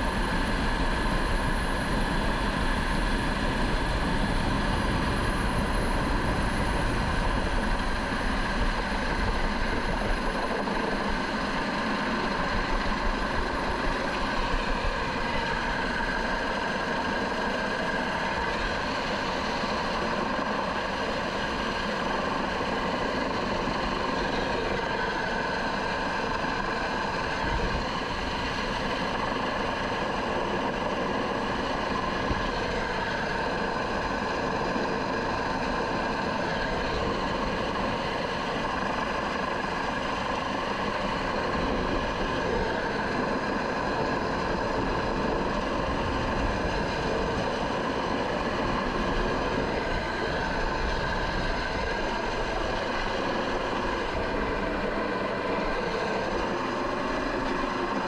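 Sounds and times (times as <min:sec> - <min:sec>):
helicopter engine whine: 0:00.0 - 0:58.0.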